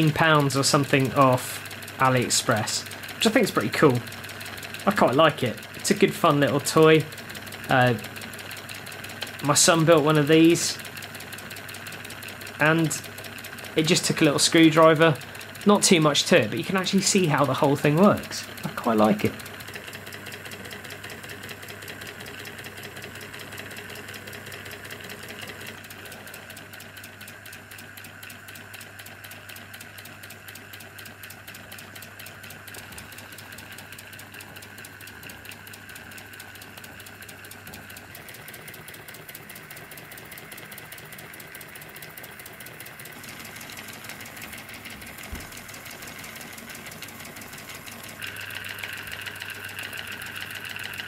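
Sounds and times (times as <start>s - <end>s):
toy steam engine ticking: 0.0s - 51.0s.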